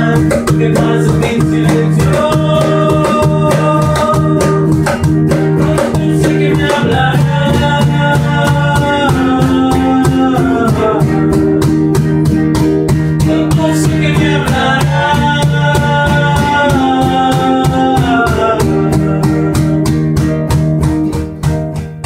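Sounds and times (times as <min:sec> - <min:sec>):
instrumental band music: 0:00.0 - 0:22.0.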